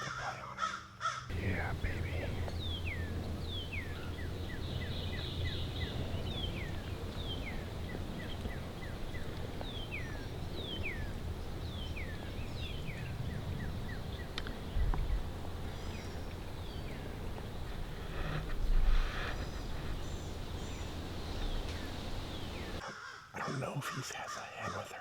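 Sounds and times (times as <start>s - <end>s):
songbird singing: 0.0s - 25.0s
steady low rumble: 1.3s - 22.8s.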